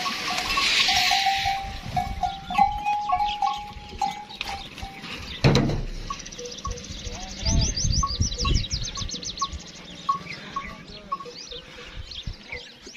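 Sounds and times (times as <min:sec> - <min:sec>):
camels calling: 0:00.0 - 0:12.8.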